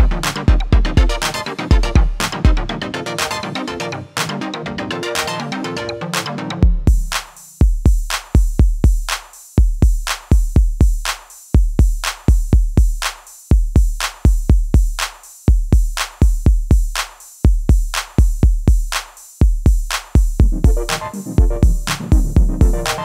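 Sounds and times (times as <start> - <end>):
electronic drum-machine beat: 0.0 - 23.0.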